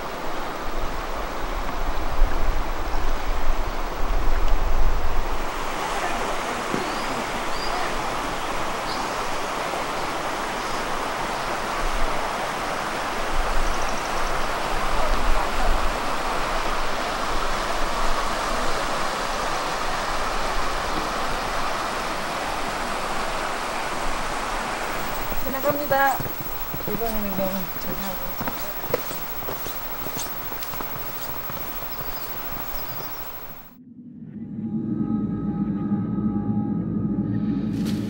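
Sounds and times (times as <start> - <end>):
mountain stream rushing: 0.0 - 33.7.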